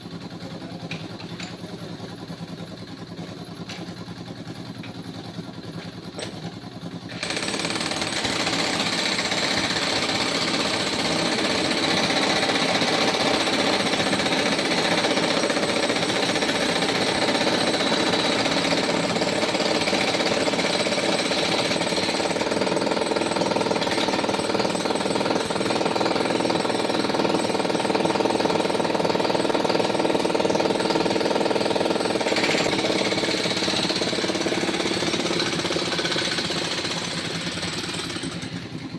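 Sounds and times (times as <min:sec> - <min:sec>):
jackhammer breaking road surface: 0:05.6 - 0:38.9.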